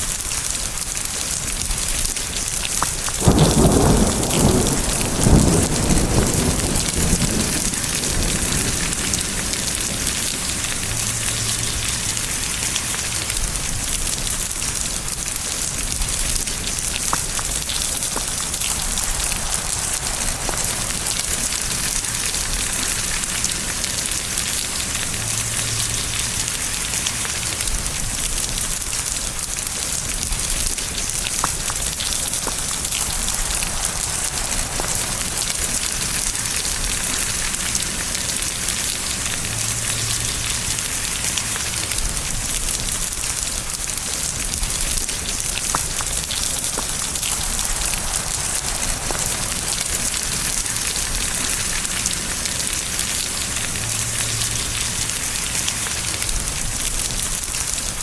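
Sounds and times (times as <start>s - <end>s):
heavy rain hissing: 0.0s - 58.0s
thunder clap and rumble: 0.2s - 58.0s.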